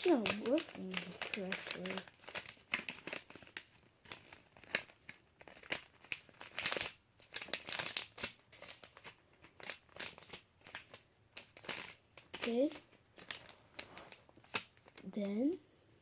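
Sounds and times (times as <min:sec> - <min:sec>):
paper crinkling and folding: 0:00.0 - 0:15.6.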